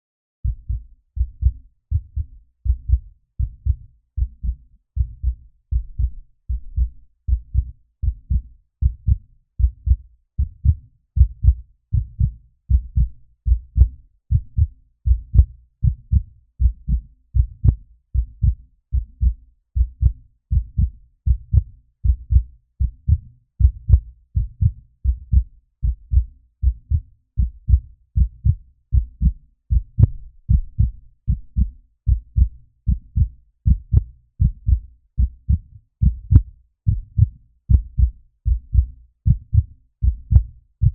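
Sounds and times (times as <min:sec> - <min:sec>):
human heartbeat: 0:00.4 - 0:40.9.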